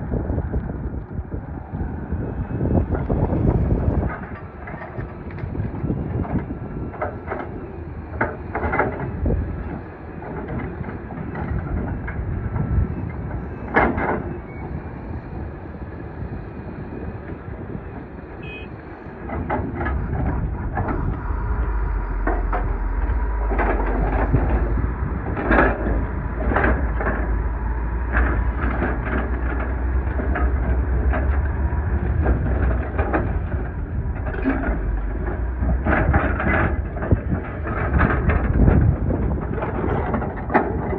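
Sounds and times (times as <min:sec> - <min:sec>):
diesel engine rumbling: 0:00.0 - 0:40.9.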